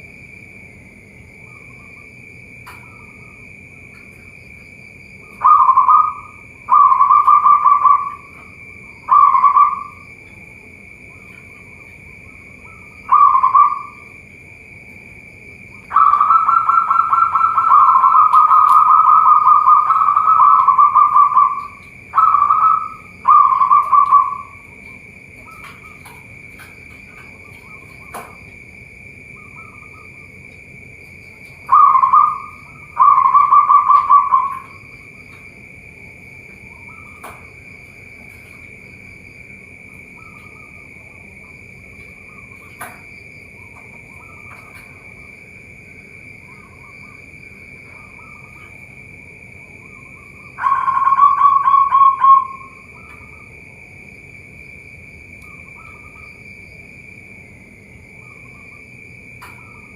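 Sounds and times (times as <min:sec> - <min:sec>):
high-pitched whine: 0:00.0 - 0:59.9
doves cooing: 0:01.1 - 0:54.5, 0:55.4 - 0:56.5.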